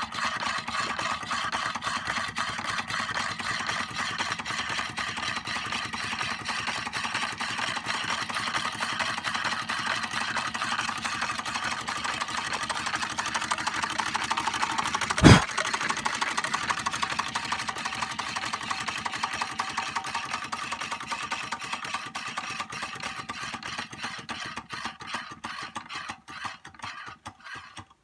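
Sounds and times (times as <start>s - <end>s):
engine toy mechanical clatter: 0.0s - 28.0s.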